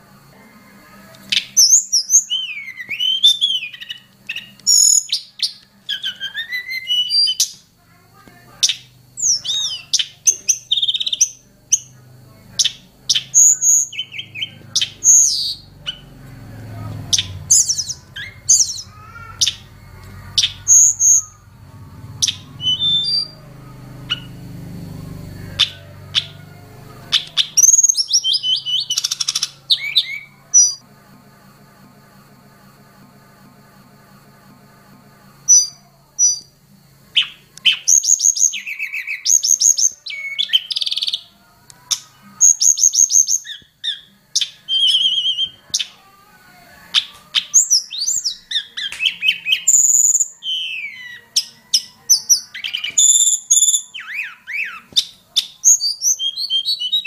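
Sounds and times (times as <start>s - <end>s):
bird chirping and whistling: 1.3s - 7.7s, 8.6s - 11.9s, 12.6s - 24.8s, 25.5s - 30.8s, 35.5s - 36.5s, 37.2s - 46.0s, 46.9s - 57.0s.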